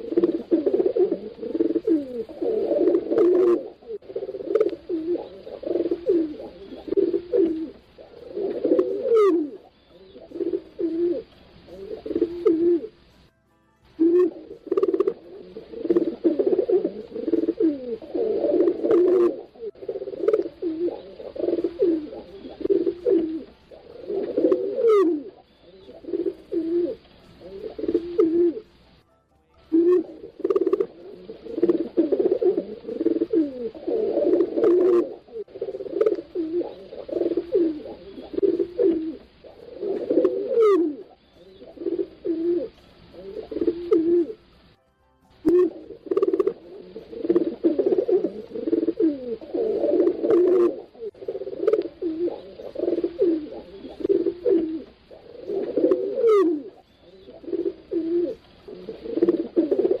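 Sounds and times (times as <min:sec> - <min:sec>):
pigeons cooing: 0:00.0 - 0:13.3, 0:14.0 - 0:28.8, 0:29.7 - 0:44.8, 0:45.4 - 1:00.0.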